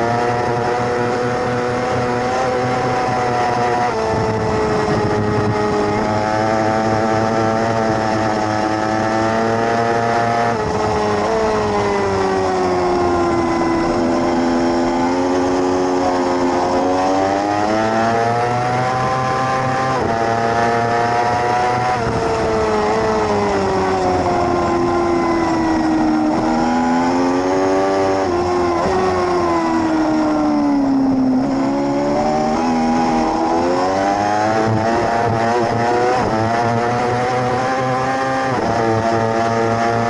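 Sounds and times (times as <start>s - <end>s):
race motorcycle engine revving: 0.0s - 40.0s.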